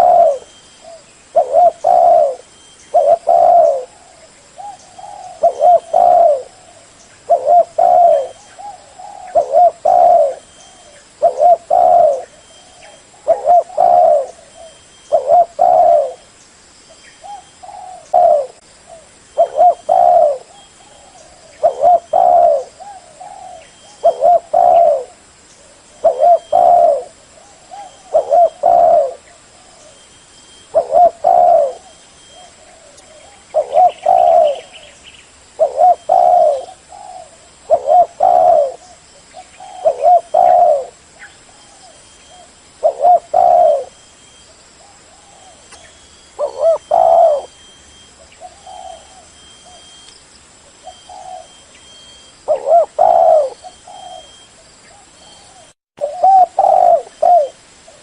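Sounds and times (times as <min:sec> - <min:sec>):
dove cooing: 0:00.0 - 0:16.3, 0:17.2 - 0:35.0, 0:35.6 - 0:44.0, 0:44.8 - 0:50.0, 0:50.7 - 0:58.0.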